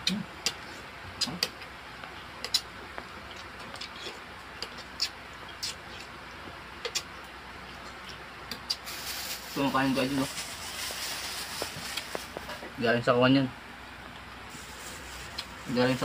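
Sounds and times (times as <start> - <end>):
steady background hiss: 0.1 - 16.0.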